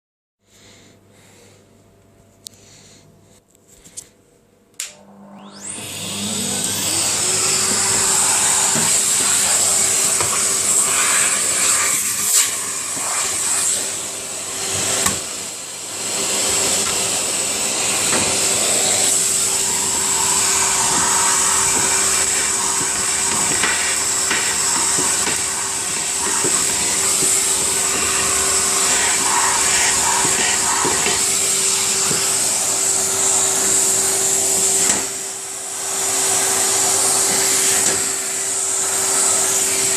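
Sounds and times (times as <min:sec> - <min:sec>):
vacuum cleaner running: 0:04.8 - 0:39.9.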